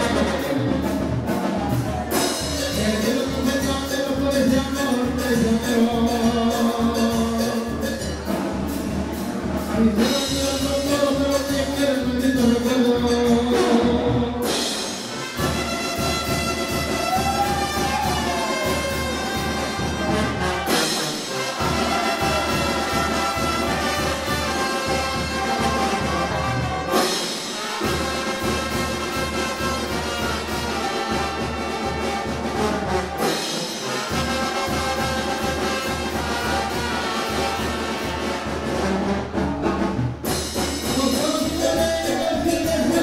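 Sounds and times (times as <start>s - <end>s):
brass band dance music: 0.0s - 43.0s.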